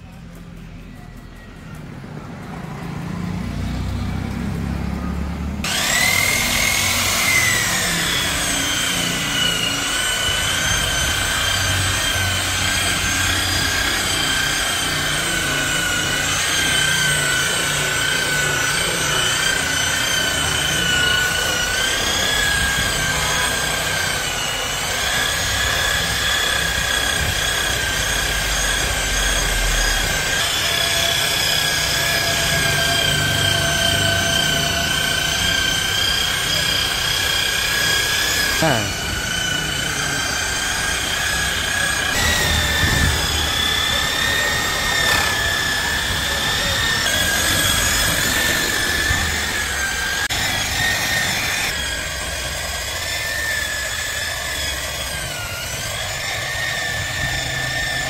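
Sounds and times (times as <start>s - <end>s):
rotary polisher motor whining: 0.1s - 58.0s.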